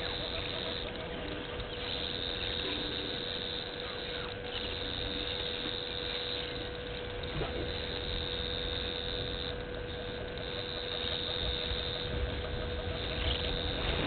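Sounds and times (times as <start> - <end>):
electrical mains hum: 0.0 - 14.0
faint outdoor background noise: 0.0 - 14.0
high whine: 0.0 - 14.0.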